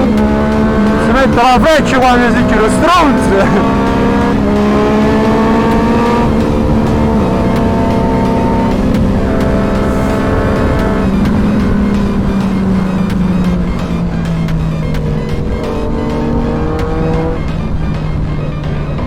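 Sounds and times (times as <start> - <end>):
motorcycle engine revving through gears: 0.0 - 19.0.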